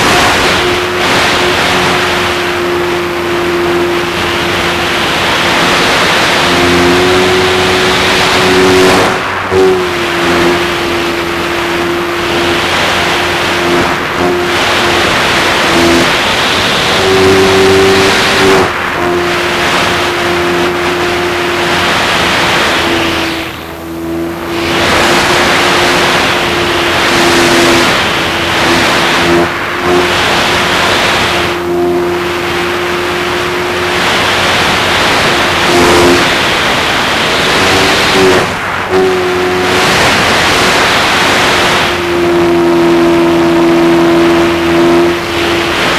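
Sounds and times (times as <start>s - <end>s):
model plane motor humming: 0.0s - 45.9s
wind rush: 0.0s - 45.9s.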